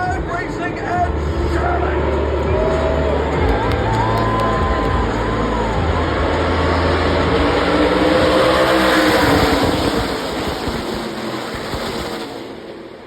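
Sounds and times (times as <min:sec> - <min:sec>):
race trucks passing at full throttle: 0:00.0 - 0:13.0.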